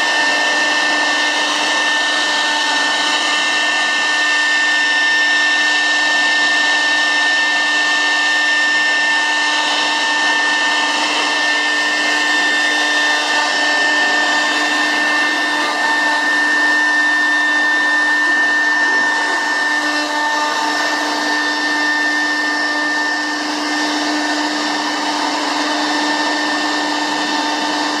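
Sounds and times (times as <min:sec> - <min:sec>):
router spindle whining: 0:00.0 - 0:28.0.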